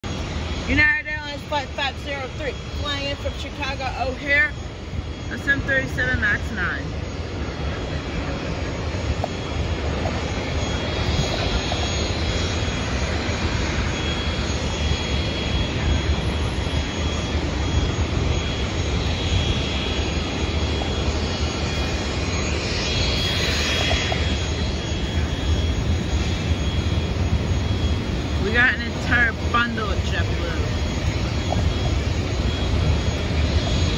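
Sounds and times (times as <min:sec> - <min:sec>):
jet engines rumbling with high whine: 0:00.0 - 0:33.9.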